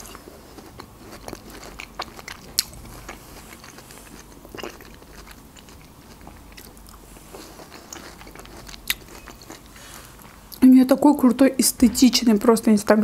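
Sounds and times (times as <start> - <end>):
person chewing melon: 0.0 - 10.6.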